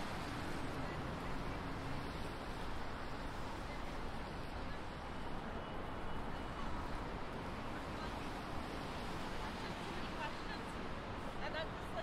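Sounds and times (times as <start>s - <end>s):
low traffic rumble and hiss: 0.0s - 12.0s.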